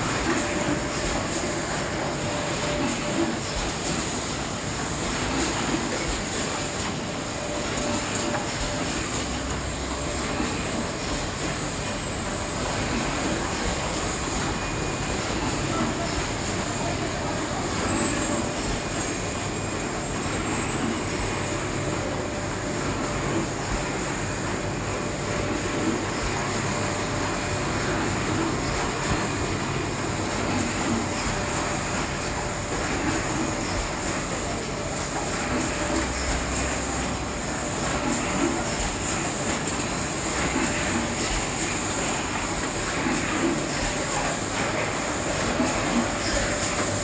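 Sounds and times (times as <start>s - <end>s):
packing line machinery: 0.0s - 47.0s.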